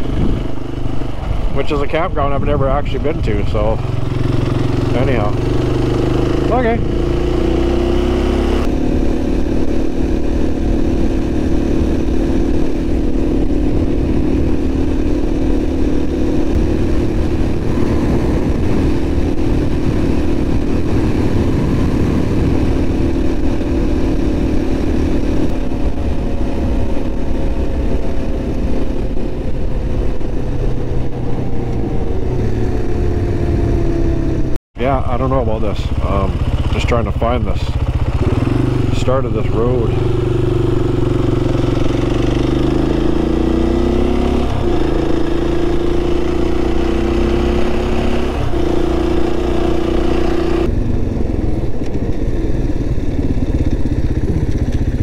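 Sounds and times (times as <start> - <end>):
motorcycle engine running: 0.0 - 55.0
rushing wind noise: 0.0 - 55.0.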